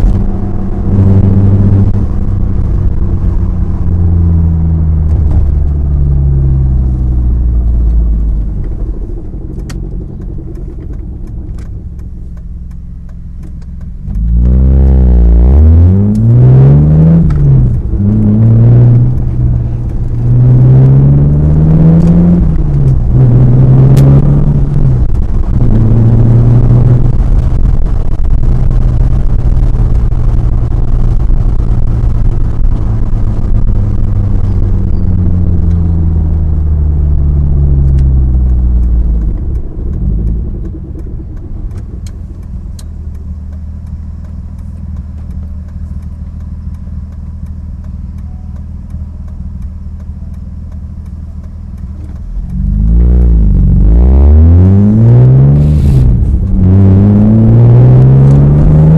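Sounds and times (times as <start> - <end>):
car exhaust revving and idling: 0.0 - 58.9.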